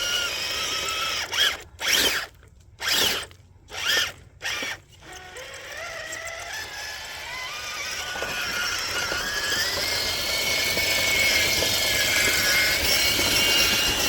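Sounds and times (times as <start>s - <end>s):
electric motor and drivetrain whine: 0.0s - 14.0s.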